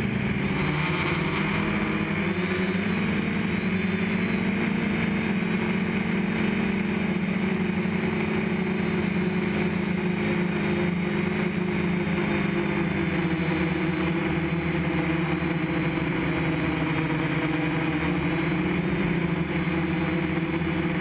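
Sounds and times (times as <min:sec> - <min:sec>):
drone motors humming: 0:00.0 - 0:21.0.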